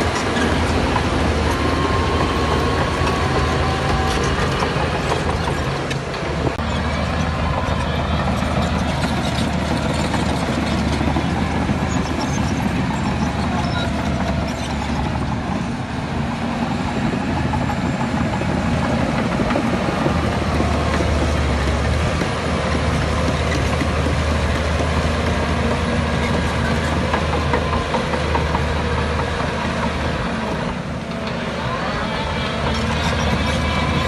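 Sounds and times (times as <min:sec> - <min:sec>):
diesel machinery engine drone: 0:00.0 - 0:34.0
machinery clatter: 0:00.0 - 0:34.0.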